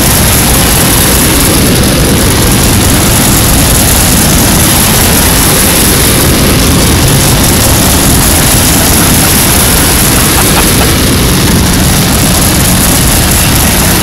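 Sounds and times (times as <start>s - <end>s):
spinning ride rumble: 0.0s - 14.0s.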